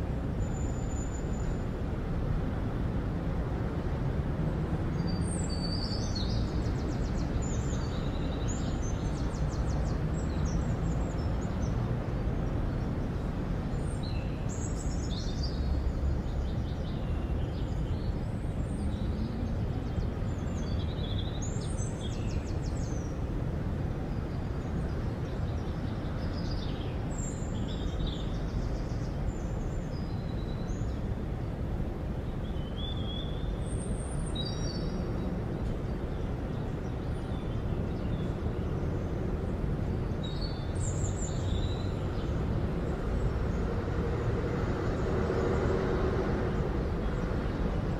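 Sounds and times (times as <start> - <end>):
low outdoor background rumble: 0.0 - 47.9
small birds chirping and trilling: 5.0 - 23.4, 24.0 - 45.8.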